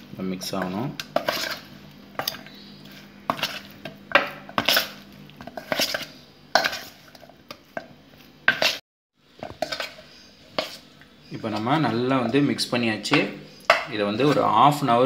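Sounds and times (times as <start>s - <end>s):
hand mixing wet batter: 0.0s - 15.0s.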